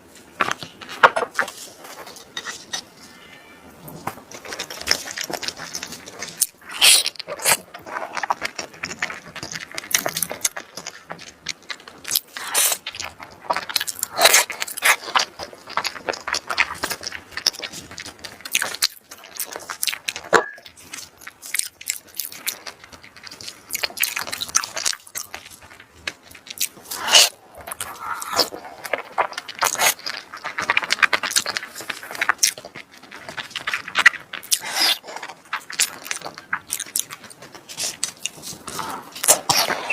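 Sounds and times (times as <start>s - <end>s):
biting and crunching: 0.0s - 39.9s
wet chewing clicks: 4.0s - 39.9s.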